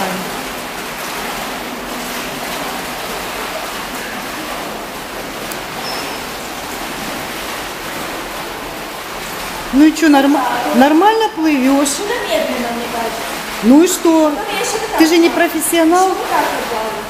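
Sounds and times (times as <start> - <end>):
pool water rushing and lapping: 0.0 - 17.0.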